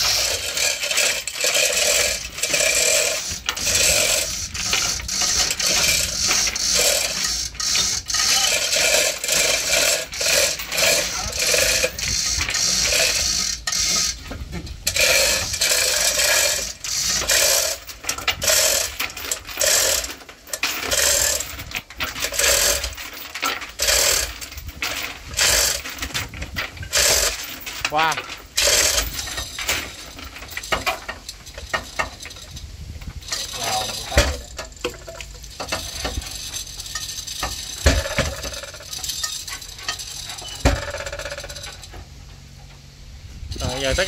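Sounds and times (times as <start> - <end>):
metal clinking and rattling: 0.0 - 42.9.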